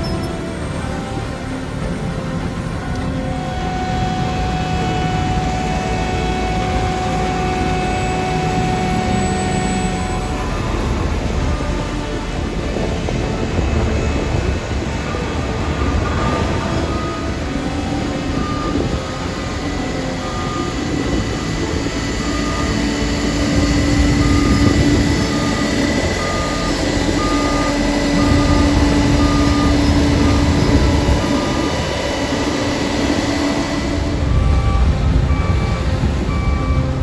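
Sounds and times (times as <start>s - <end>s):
heavy machinery rumbling: 0.0s - 37.0s
reversing alarm beeping: 0.0s - 37.0s.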